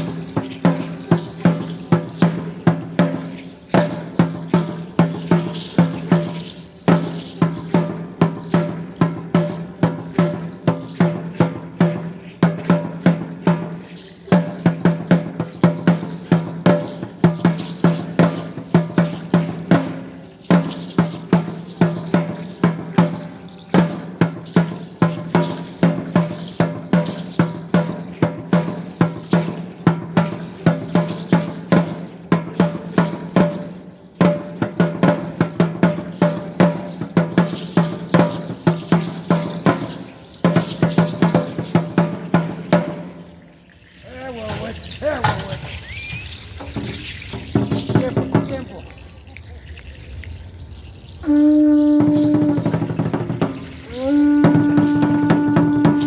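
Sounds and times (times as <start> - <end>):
drum beating dance rhythm: 0.0 - 43.6, 44.6 - 48.9, 51.2 - 56.0.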